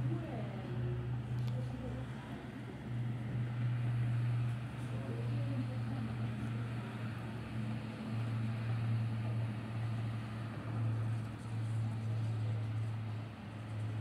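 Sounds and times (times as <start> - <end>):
cars on road overpass: 0.0 - 14.0.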